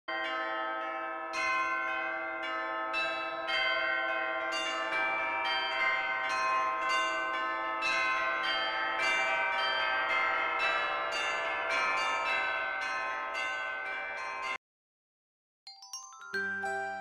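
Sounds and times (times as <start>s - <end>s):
bells ringing: 0.1s - 14.6s, 15.7s - 17.0s.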